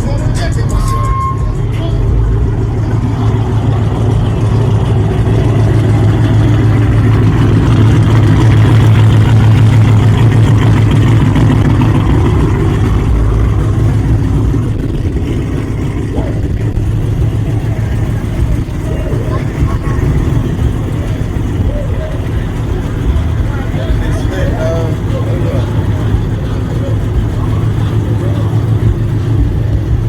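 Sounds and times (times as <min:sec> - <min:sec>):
car engine exhaust rumble: 0:00.0 - 0:30.0.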